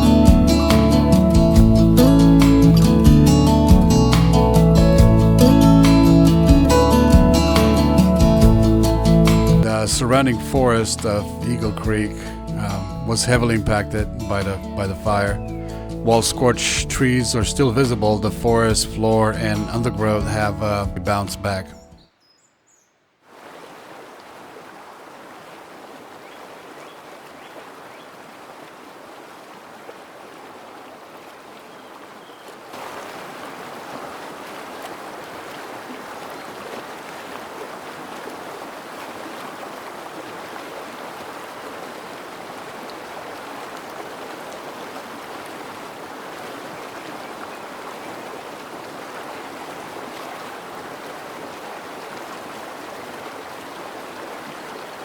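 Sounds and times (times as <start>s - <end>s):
rushing creek water: 0.0s - 21.8s, 23.2s - 55.0s.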